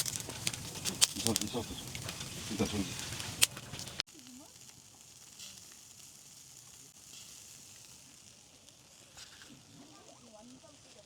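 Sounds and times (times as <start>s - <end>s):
food sizzling: 0.0s - 11.0s.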